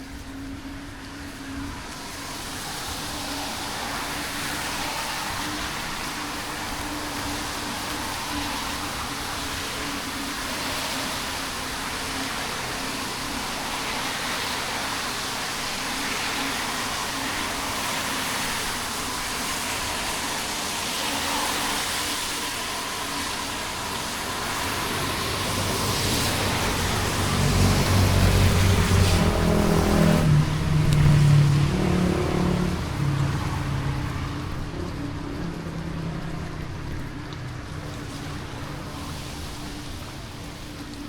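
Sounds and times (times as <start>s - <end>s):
bicycle tyres hissing on wet road: 0.0s - 41.0s
light rain: 0.0s - 41.0s
traffic: 0.0s - 41.0s
wind: 0.0s - 41.0s.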